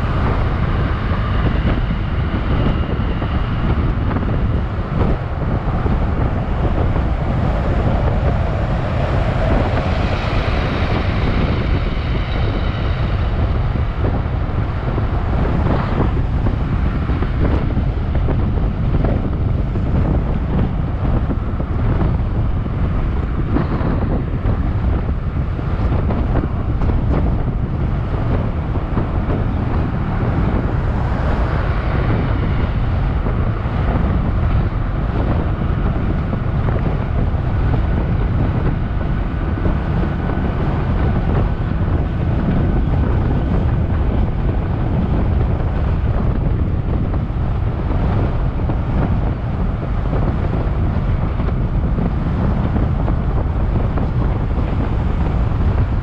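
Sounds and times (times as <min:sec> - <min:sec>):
road noise: 0:00.0 - 0:56.0
wind rumble on microphone: 0:00.0 - 0:56.0.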